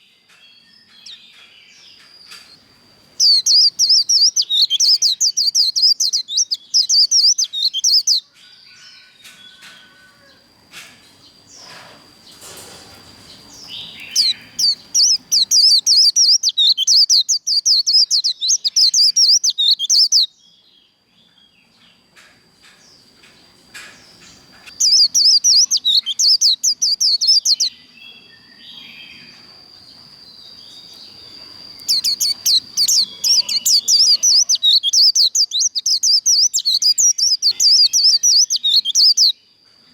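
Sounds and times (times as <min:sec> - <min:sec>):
bird twittering song: 0:00.0 - 0:09.9, 0:11.0 - 0:39.9.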